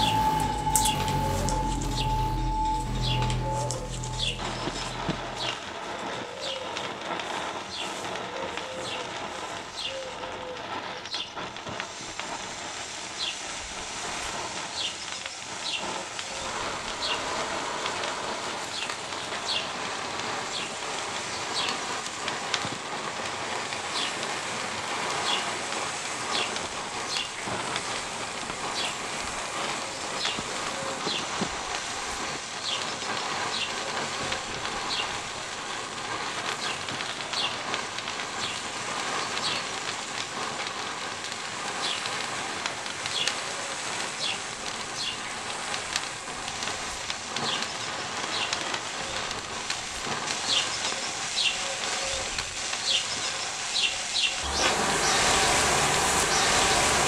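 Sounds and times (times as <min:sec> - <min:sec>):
matches burning with fizzing hiss: 0:06.4 - 0:57.0
rush of flame: 0:10.6 - 0:57.0.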